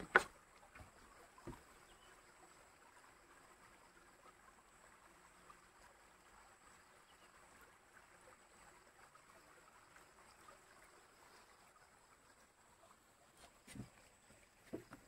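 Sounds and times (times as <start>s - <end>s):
stream trickling over rocks: 0.0s - 15.0s.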